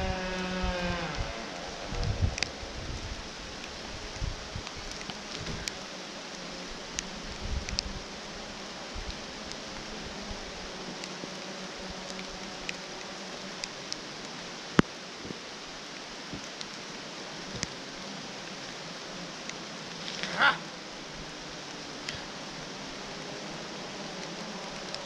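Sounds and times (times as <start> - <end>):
rain hiss with dripping: 0.0 - 25.0
rustle: 0.0 - 25.0.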